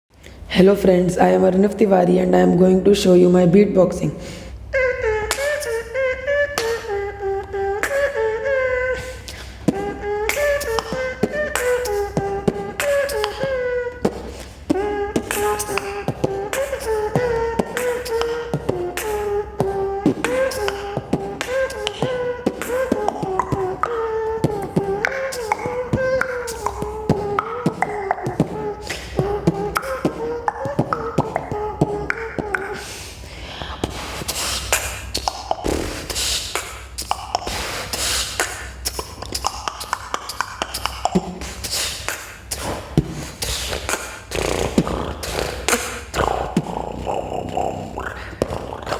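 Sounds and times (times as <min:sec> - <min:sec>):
boy beatboxing: 0:00.5 - 0:48.9
boy humming melody: 0:00.6 - 0:48.9.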